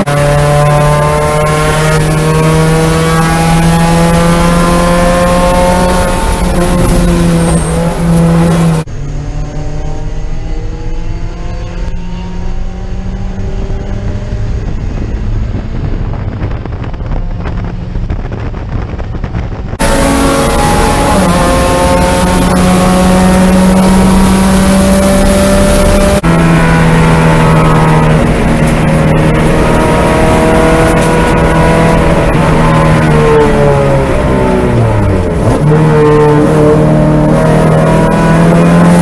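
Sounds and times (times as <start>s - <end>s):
car engine revving high: 0.0s - 39.0s
wind and road noise: 0.0s - 39.0s.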